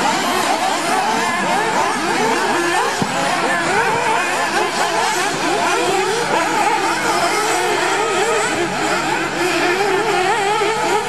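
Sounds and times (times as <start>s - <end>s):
model car engines revving: 0.0s - 11.0s.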